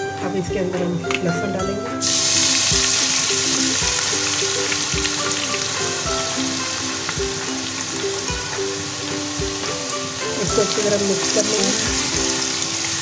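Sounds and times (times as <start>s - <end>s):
garlic sizzling in hot fat: 2.0s - 13.0s.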